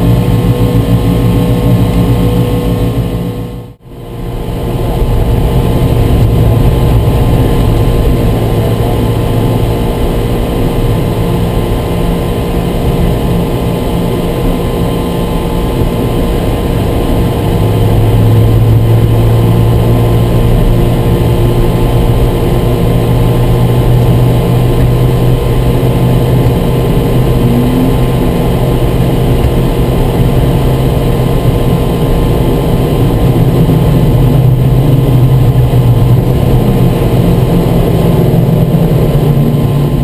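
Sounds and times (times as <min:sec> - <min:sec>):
race car engine drone in cabin: 0:00.0 - 0:40.0.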